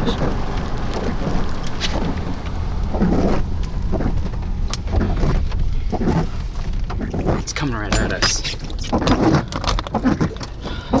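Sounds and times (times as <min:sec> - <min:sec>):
raindrops ticking on car: 0:00.0 - 0:11.0
wind rumbling against microphone: 0:00.0 - 0:11.0.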